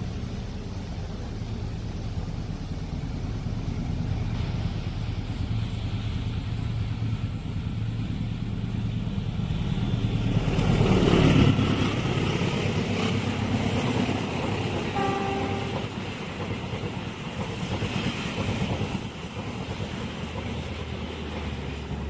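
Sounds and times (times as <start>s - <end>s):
diesel train engine hum: 0.0s - 22.0s.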